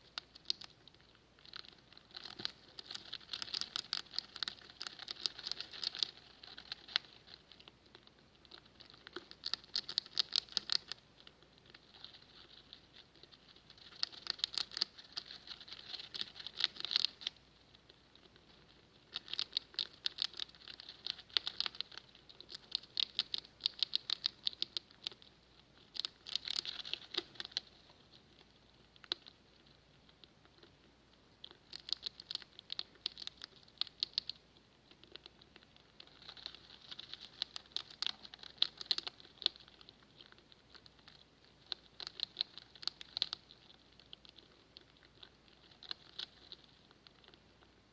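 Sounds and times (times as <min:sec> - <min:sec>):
rats making crackling clicks: 0:00.0 - 0:47.9.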